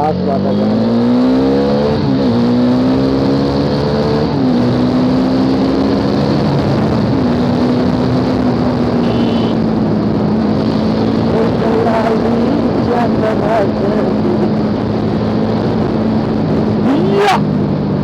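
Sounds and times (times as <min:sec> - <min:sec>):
motorcycle engine running: 0:00.0 - 0:18.0
wind noise: 0:01.4 - 0:18.0.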